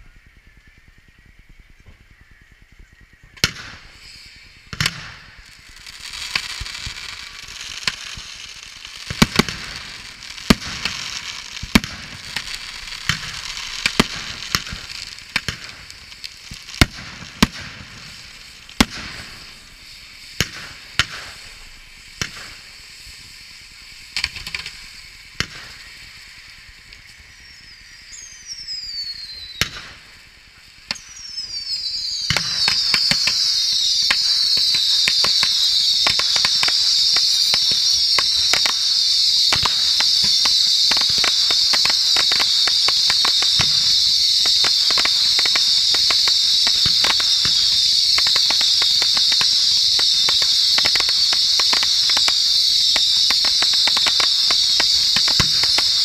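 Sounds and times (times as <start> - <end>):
fireworks fountain hissing: 0.0 - 56.0
whistling fireworks shrieking: 0.0 - 56.0
fireworks bangs and cracks: 3.3 - 56.0.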